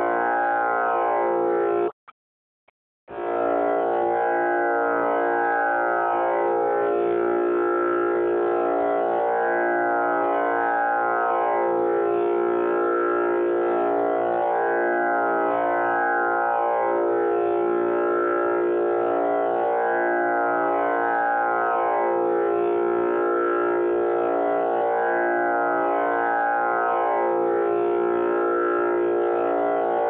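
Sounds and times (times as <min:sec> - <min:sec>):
tanpura drone: 0:00.0 - 0:02.0, 0:03.1 - 0:30.0.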